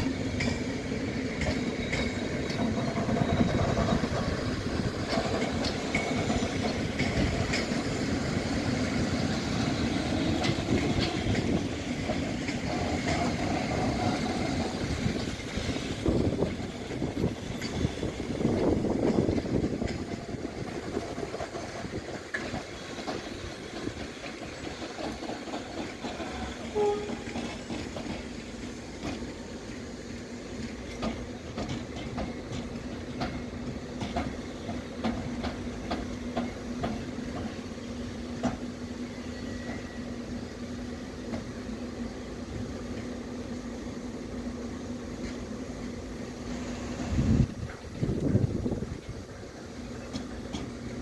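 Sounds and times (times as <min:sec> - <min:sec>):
train wheels clicking over rail joints: 0:00.0 - 0:51.0.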